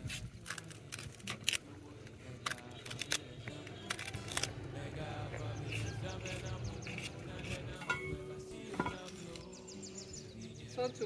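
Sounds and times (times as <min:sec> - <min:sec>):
background music: 0:00.9 - 0:11.0.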